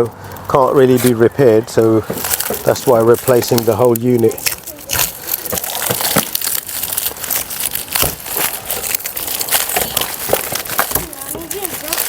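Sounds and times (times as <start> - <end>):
plastic crackling and clicking: 1.8 - 12.0.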